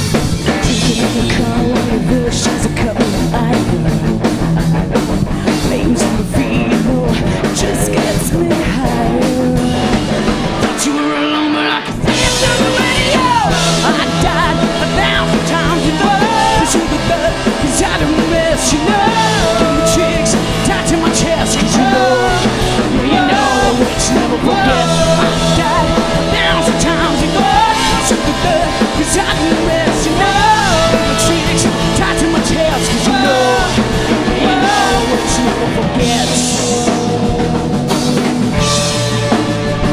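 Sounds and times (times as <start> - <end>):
rock band playing live: 0.0 - 39.9
person singing: 0.4 - 4.0, 5.3 - 37.7.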